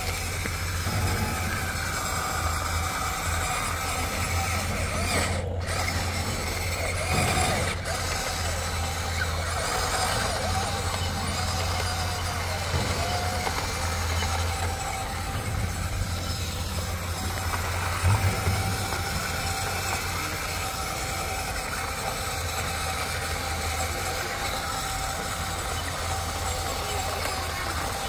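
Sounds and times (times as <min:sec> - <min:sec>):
electric motors humming and whining: 0:00.0 - 0:28.0.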